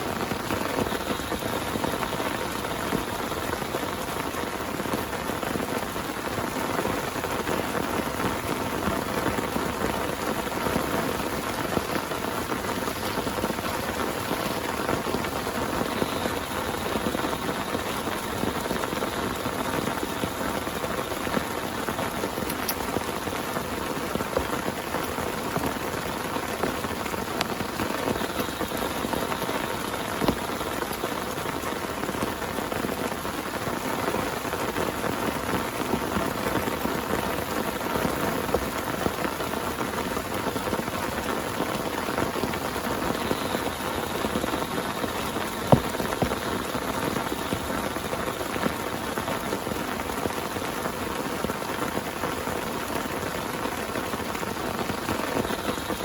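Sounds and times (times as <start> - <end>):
heavy rain on a tent: 0.0 - 56.0.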